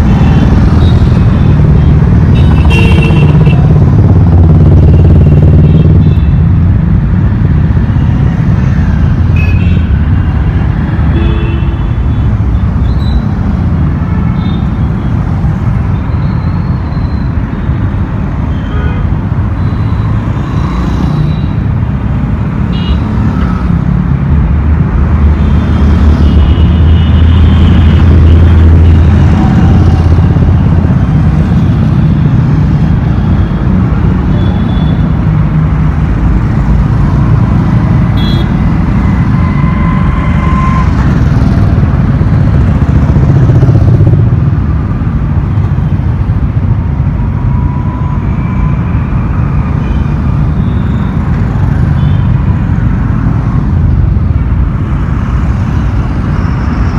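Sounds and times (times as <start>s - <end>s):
heavy road traffic rumble: 0.0s - 56.9s.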